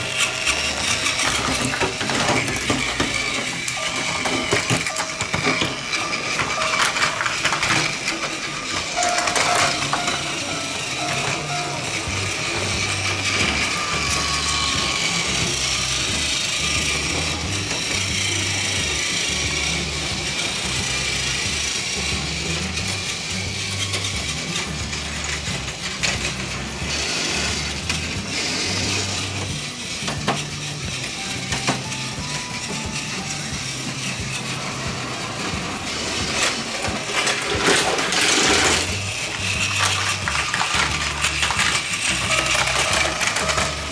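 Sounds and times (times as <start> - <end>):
toy train motor whirring: 0.0 - 43.9
toy train wheels rattling: 0.0 - 43.9
background music: 8.5 - 43.9.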